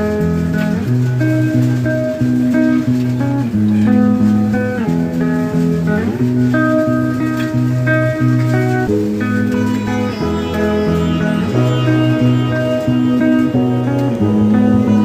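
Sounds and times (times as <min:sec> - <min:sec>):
guitar-led music with bass: 0:00.0 - 0:15.0.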